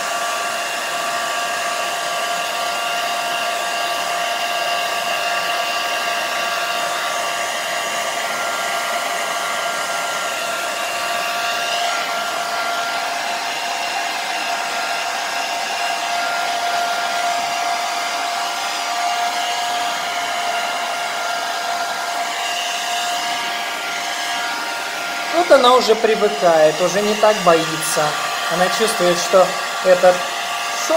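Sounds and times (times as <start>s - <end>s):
hair dryer blowing: 0.0s - 30.9s.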